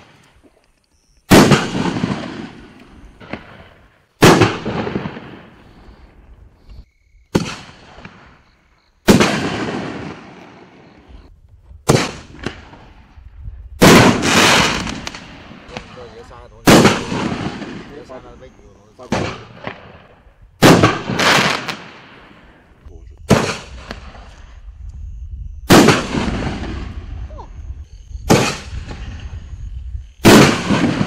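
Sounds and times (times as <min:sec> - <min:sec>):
fireworks firing and bursting: 0:01.3 - 0:06.3, 0:07.3 - 0:18.4, 0:19.0 - 0:24.6, 0:25.6 - 0:27.4, 0:28.2 - 0:29.4, 0:30.2 - 0:31.0.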